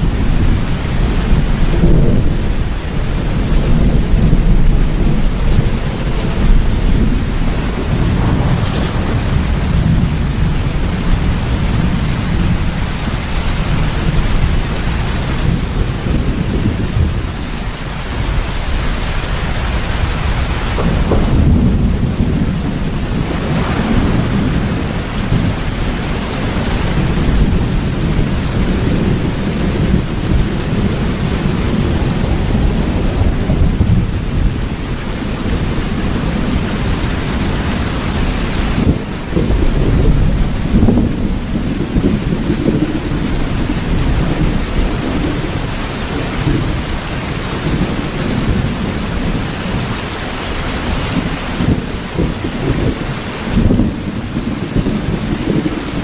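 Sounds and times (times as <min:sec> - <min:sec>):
heavy rain: 0:00.0 - 0:56.0
low rolling thunder: 0:00.0 - 0:56.0.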